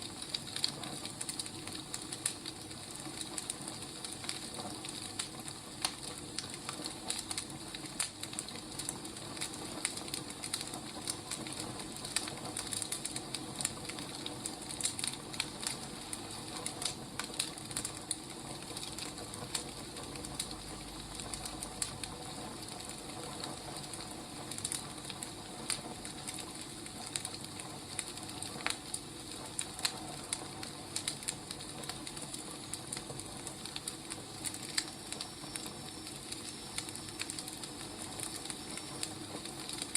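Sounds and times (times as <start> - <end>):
fire hissing: 0.0 - 39.9
wood fire crackling and popping: 0.0 - 39.9.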